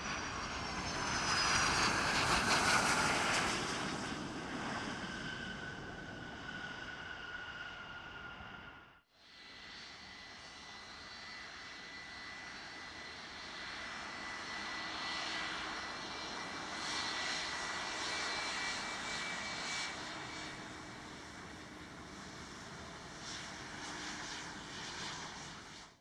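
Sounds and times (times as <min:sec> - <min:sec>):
jet engines rushing with fan whine: 0:00.0 - 0:26.0.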